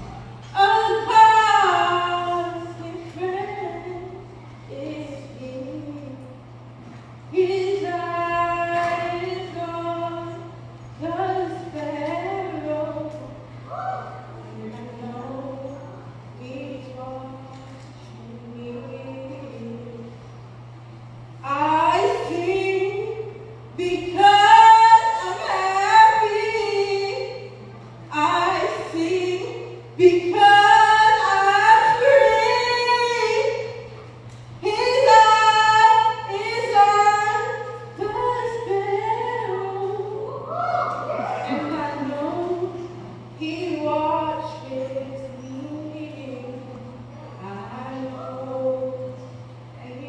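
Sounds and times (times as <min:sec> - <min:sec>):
faint steady hum: 0:00.0 - 0:50.0
person singing in an auditorium: 0:00.0 - 0:50.0.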